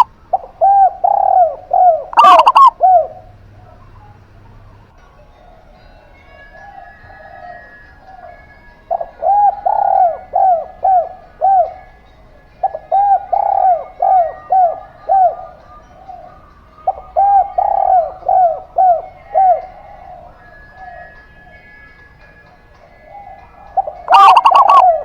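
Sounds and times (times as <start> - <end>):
dove cooing: 0.0 - 4.7, 5.4 - 25.0.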